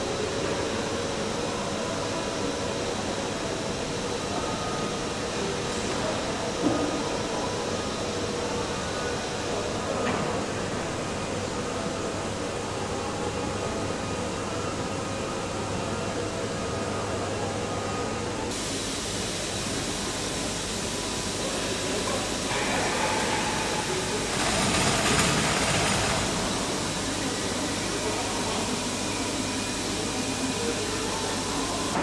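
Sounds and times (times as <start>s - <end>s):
machinery and ventilation hum: 0.0s - 32.0s.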